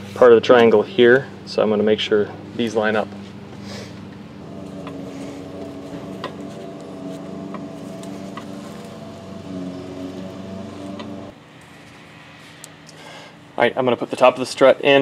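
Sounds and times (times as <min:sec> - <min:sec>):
droning motor hum: 0:00.0 - 0:13.6.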